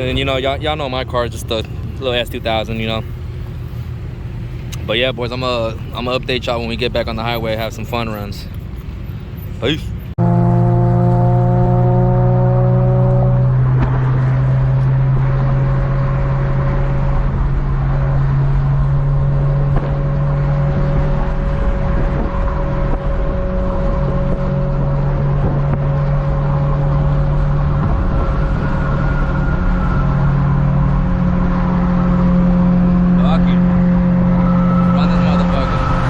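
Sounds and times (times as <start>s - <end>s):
car engine cruising: 0.0s - 36.0s
road noise: 0.0s - 36.0s.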